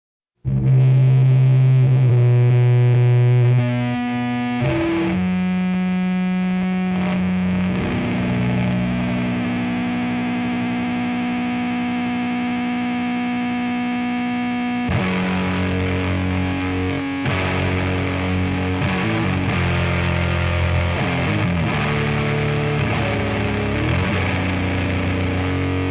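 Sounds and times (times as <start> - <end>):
distorted electric guitar: 0.4 - 25.9.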